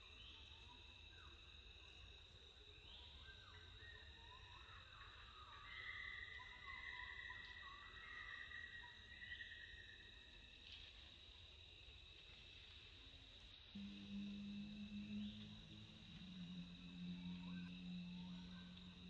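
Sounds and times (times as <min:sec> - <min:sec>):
insect chorus droning: 0:00.0 - 0:19.0.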